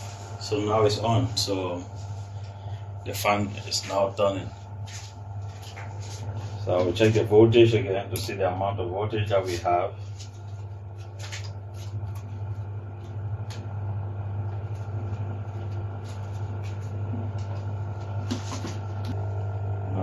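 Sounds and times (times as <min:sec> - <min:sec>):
exhaust fan humming: 0:00.0 - 0:20.0.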